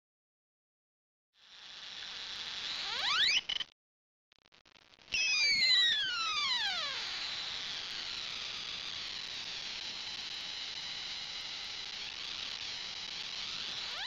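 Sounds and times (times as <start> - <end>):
high-pitched spark arc whine: 1.4 - 3.7, 4.5 - 14.0.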